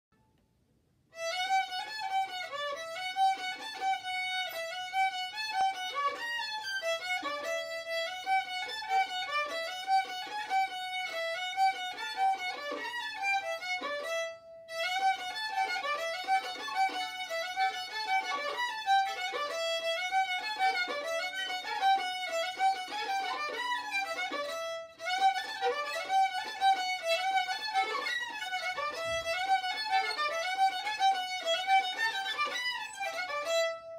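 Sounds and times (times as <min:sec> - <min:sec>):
solo violin bowing fast notes: 0:01.2 - 0:33.9.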